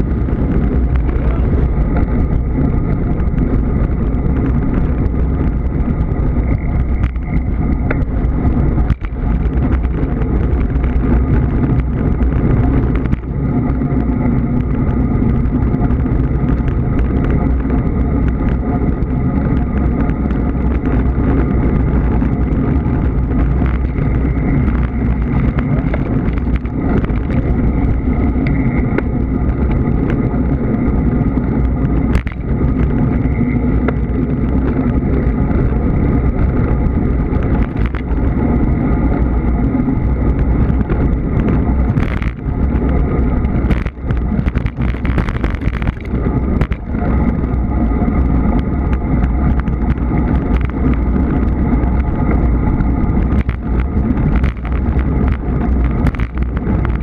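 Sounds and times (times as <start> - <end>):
road noise: 0.0 - 57.0
rushing wind: 0.0 - 57.0.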